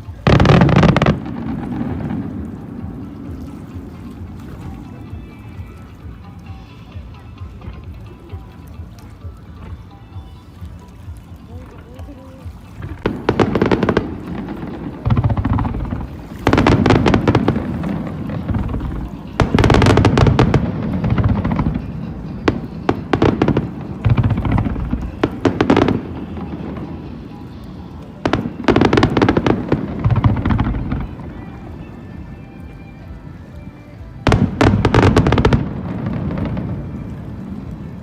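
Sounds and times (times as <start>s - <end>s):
firework crackling: 0.0s - 6.3s, 11.7s - 32.4s, 34.2s - 38.0s.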